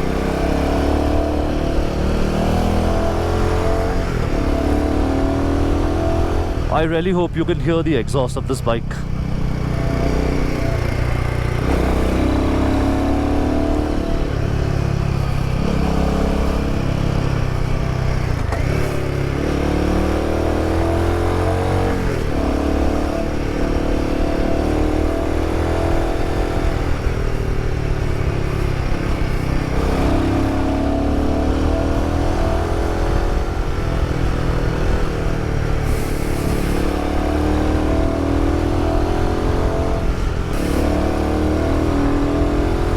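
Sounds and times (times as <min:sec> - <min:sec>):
motorcycle exhaust note: 0:00.0 - 0:42.9.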